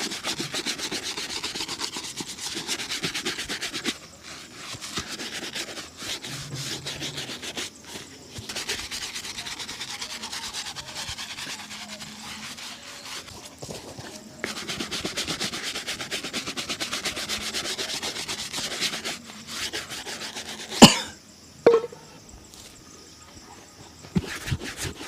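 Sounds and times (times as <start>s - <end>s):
brushing a leather shoe: 0.0s - 20.9s, 23.7s - 25.0s.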